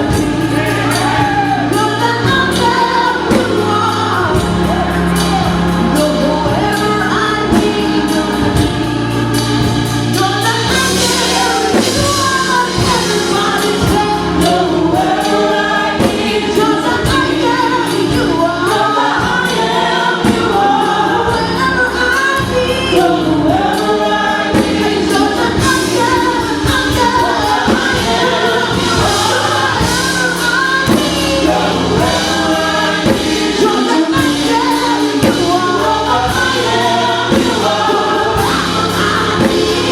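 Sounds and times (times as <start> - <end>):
band with bass and drums: 0.0 - 39.9
choir singing gospel: 0.0 - 39.9.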